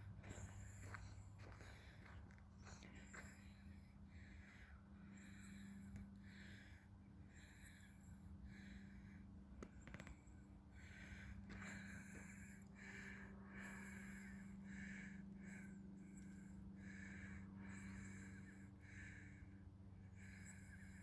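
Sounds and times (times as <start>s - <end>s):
steady low hum: 0.0s - 21.0s
person breathing: 0.2s - 21.0s.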